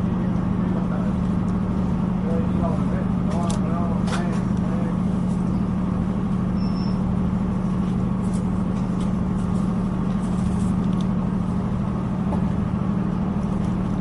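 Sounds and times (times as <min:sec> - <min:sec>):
train engine and wheels drone: 0:00.0 - 0:14.0.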